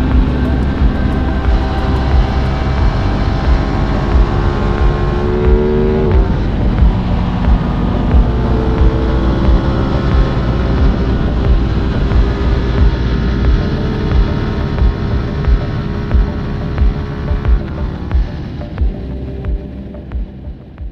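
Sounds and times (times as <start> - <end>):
wind buffeting microphone: 0.0 - 19.6
motorcycle engine accelerating: 0.0 - 20.9.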